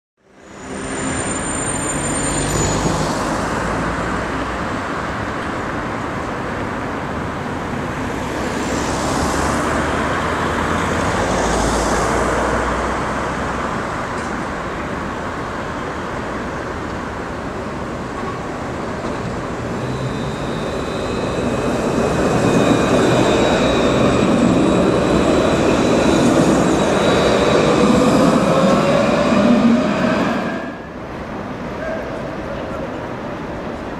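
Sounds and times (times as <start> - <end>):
high whine of tram motors: 0.2 - 33.9
street traffic noise: 0.2 - 33.9
tram running along track: 0.2 - 33.9.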